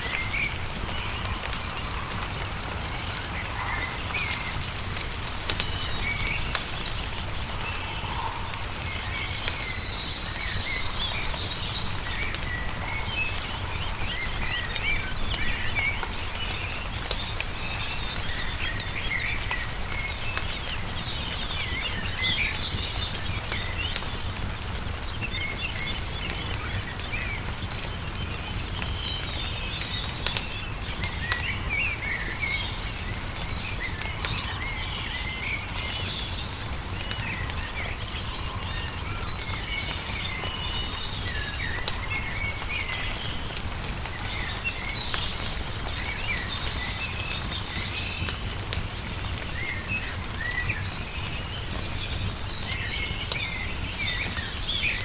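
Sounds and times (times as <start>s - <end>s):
small birds chirping and singing: 0.0s - 55.0s
wood fire crackling and popping: 0.0s - 55.0s.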